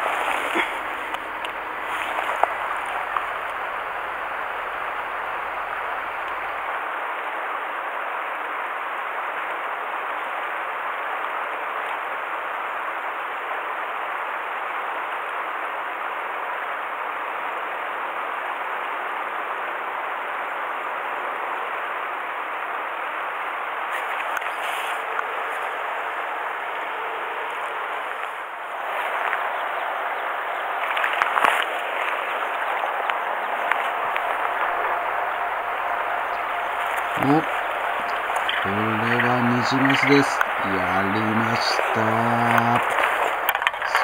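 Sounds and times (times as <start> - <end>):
stream rushing over stones: 0.0 - 17.1, 23.6 - 44.0.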